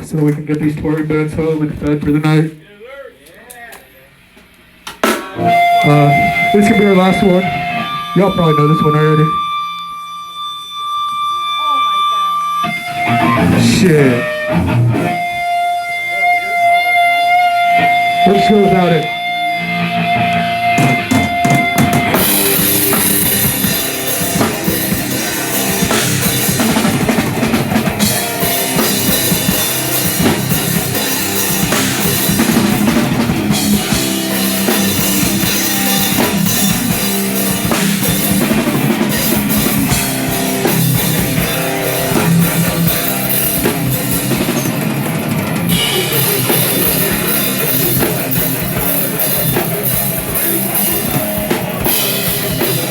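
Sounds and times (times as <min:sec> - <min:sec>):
live rock band playing: 0:04.7 - 0:52.9
steady high tone: 0:05.2 - 0:52.9.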